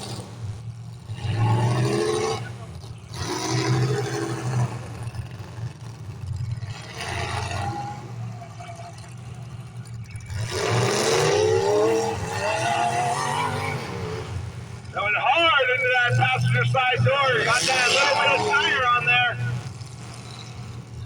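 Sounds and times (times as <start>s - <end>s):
car engines revving: 0.0s - 21.0s
low drone of engines: 0.0s - 21.0s.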